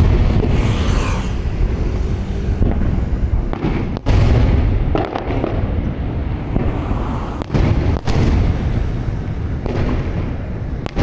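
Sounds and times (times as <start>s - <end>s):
rumble of booms: 0.0s - 0.7s, 2.4s - 11.0s
fireworks bursting with sharp bangs: 0.0s - 11.0s.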